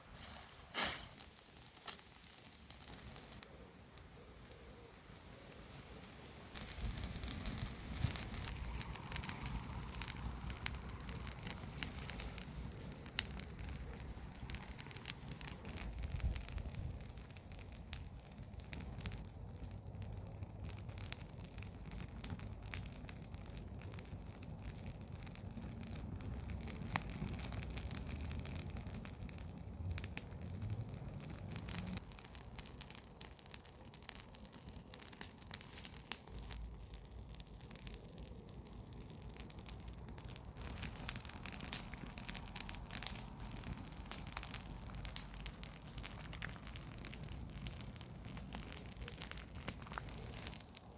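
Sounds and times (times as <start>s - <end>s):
open fire crackling: 0.0s - 50.9s.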